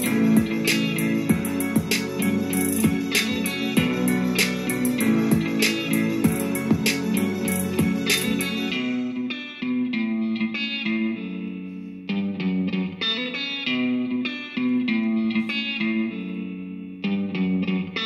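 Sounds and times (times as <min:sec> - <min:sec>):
guitar chords ringing: 0:00.0 - 0:18.0.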